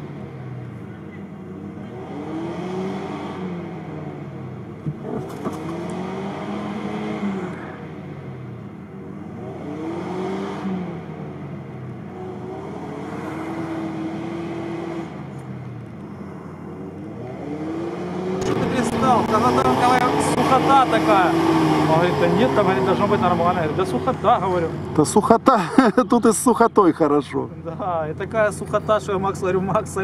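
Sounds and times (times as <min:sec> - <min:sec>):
engine revving: 0:00.0 - 0:25.4.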